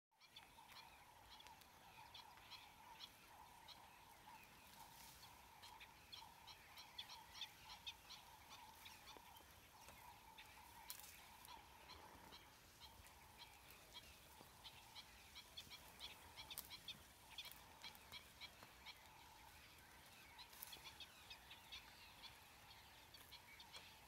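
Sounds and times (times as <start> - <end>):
lower bird chirping: 0.1 - 24.0
wild birds calling: 0.2 - 24.0.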